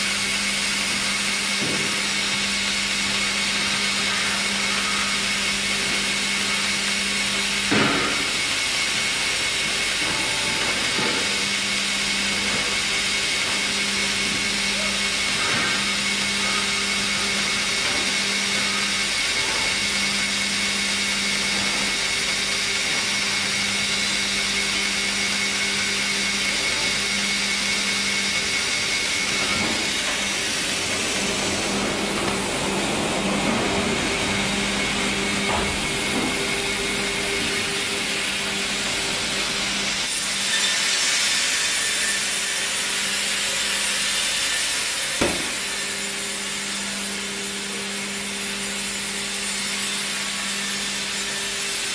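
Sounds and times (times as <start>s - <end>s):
machine hum with high whine: 0.0s - 51.9s.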